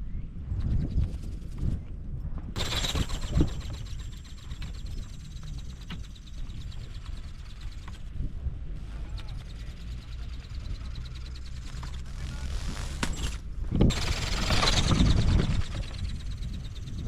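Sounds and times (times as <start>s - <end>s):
wind on microphone: 0.0s - 17.0s
motor whine and rapid ticking: 2.6s - 17.0s.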